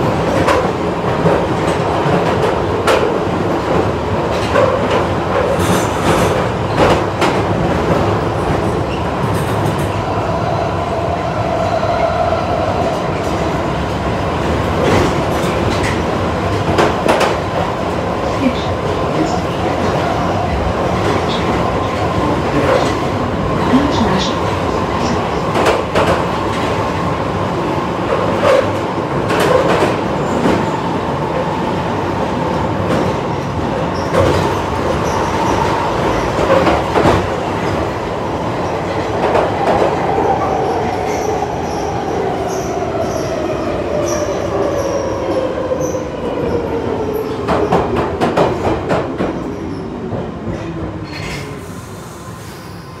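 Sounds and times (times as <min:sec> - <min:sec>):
train rumble and wheel noise: 0:00.0 - 0:53.0.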